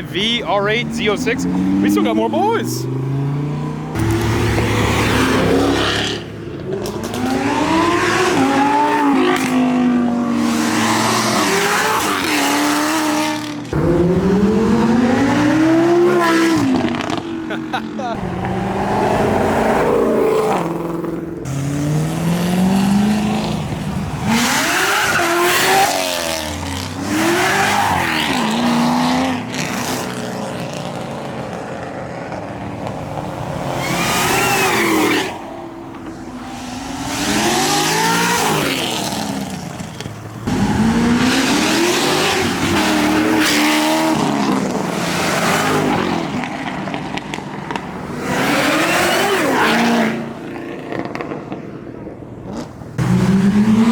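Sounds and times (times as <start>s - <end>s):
cars accelerating hard: 0.0s - 53.9s.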